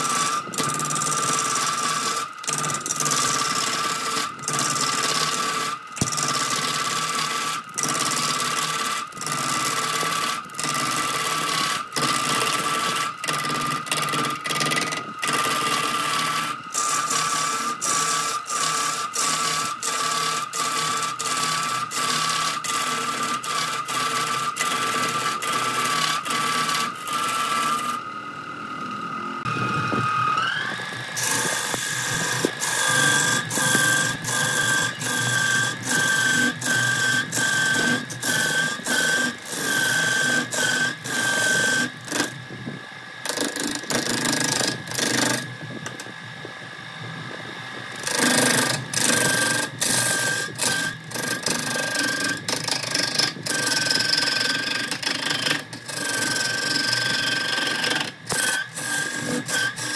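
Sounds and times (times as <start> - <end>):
gouge scraping spinning wood: 0.0 - 46.2, 47.4 - 59.9
wood lathe whine: 0.0 - 59.9.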